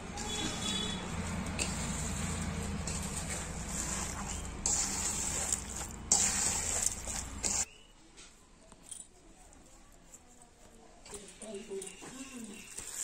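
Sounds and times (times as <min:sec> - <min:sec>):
hands squishing damp rice: 0:00.2 - 0:07.8, 0:09.4 - 0:13.0.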